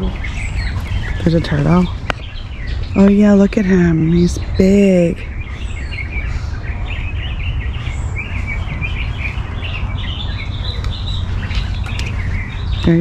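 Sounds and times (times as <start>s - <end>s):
birds chirping and calling: 0.0s - 13.0s
steady low rumble: 0.0s - 13.0s.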